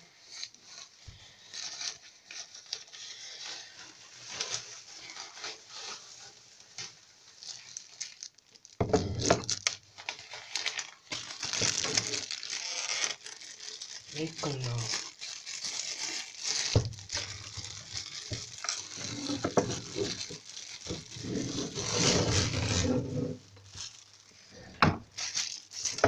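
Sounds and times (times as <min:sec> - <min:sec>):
plastic wrapping crinkling: 0:00.0 - 0:26.0.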